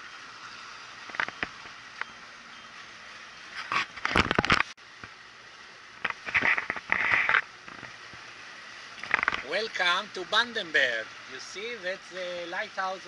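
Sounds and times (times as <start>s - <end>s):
rushing water: 0.0s - 13.0s
wind: 0.0s - 13.0s.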